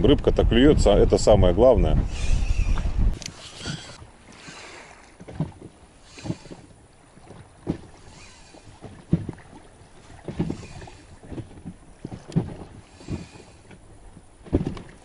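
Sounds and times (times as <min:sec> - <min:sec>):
low water slaps: 0:01.8 - 0:15.0
small waves lapping: 0:02.0 - 0:15.0.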